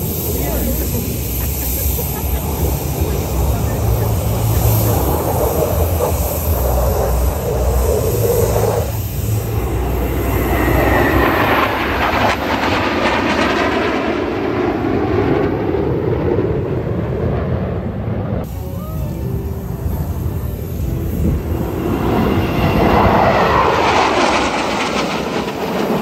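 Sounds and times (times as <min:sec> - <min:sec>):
falling jet whine: 0:00.0 - 0:26.0
jet engines roaring: 0:00.0 - 0:26.0.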